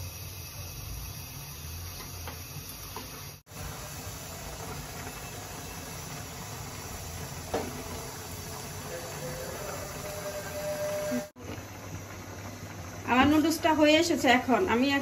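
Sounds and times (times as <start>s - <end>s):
pot of noodles boiling: 0.0s - 15.0s.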